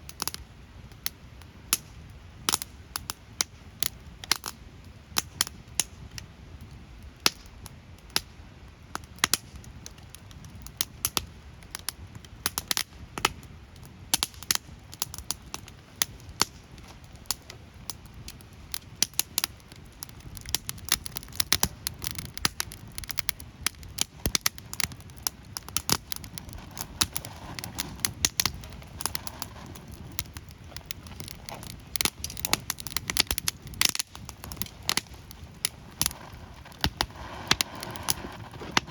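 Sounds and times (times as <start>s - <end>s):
bonfire crackling and popping: 0.0s - 38.9s.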